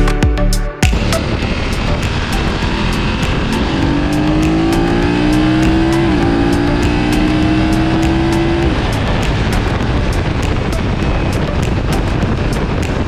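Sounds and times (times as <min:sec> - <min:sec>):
motorcycle engine accelerating: 0:00.8 - 0:13.0.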